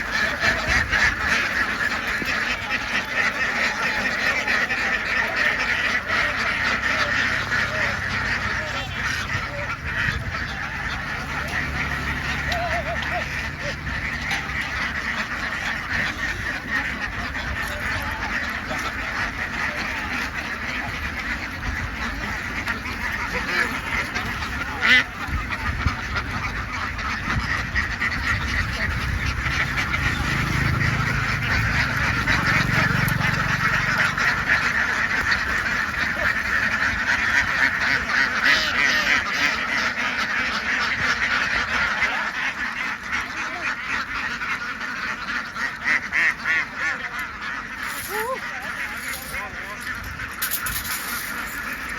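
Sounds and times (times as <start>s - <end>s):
ducks quacking: 0.0s - 51.9s.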